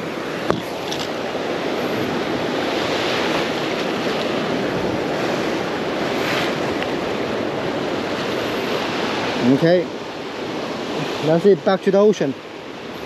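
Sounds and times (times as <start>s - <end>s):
ocean surf on rocky shore: 0.0s - 13.0s.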